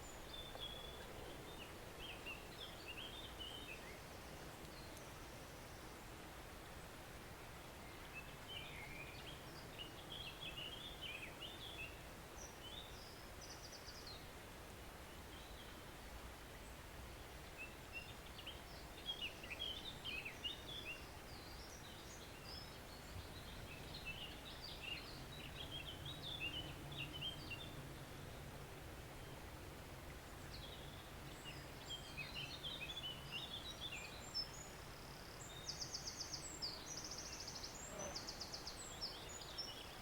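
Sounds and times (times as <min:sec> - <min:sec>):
songbirds chirping and trilling: 0:00.0 - 0:40.0
stream running quietly: 0:00.0 - 0:40.0.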